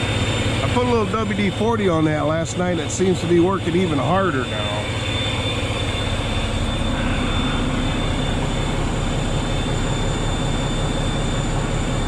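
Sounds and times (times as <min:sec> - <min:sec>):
faint high whine: 0:00.0 - 0:12.0
truck engine idling: 0:00.0 - 0:12.0.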